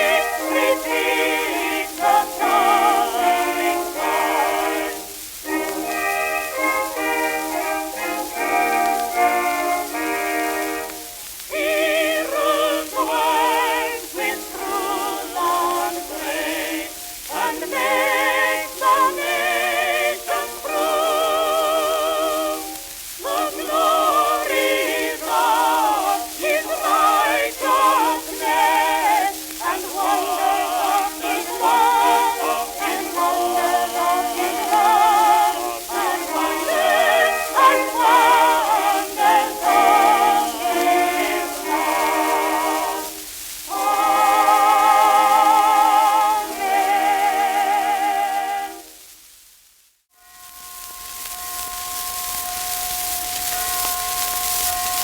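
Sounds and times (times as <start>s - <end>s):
record surface hiss and crackle: 0.0s - 55.0s.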